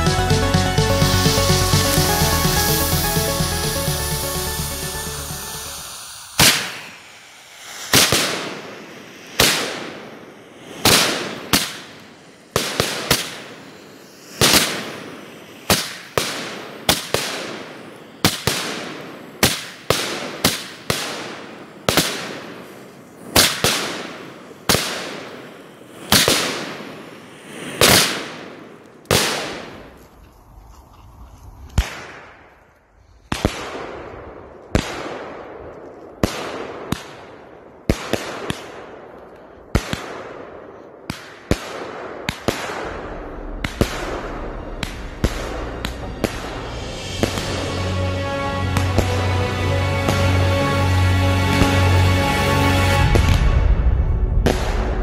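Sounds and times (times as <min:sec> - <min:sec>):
fireworks bangs: 0:00.0 - 0:30.2, 0:33.3 - 0:50.4, 0:52.8 - 0:55.0.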